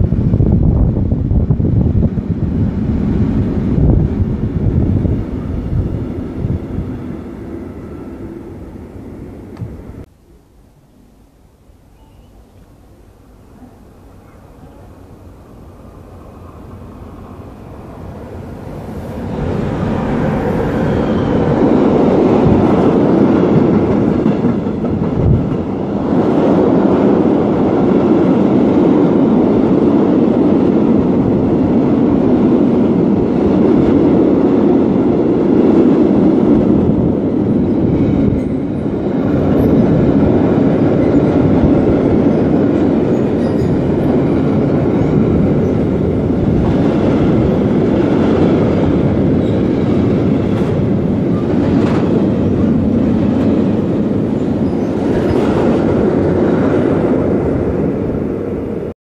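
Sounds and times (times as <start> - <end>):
steel wheels rumbling on rail: 0.0 - 10.1, 12.6 - 58.9.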